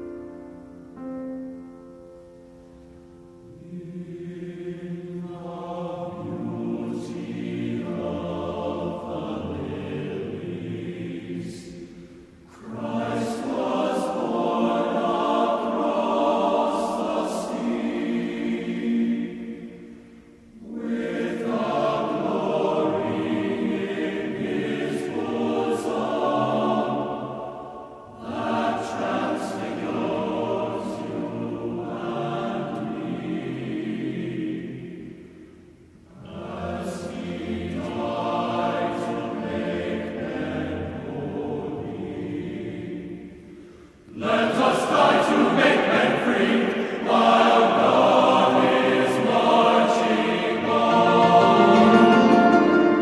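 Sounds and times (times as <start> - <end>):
choir singing: 3.3 - 53.0.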